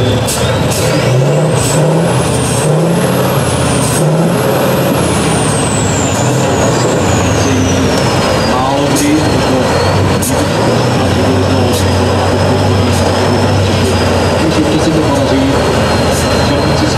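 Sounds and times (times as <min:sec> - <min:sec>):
diesel truck engine revving: 0:00.0 - 0:16.9
high whine: 0:00.0 - 0:16.9.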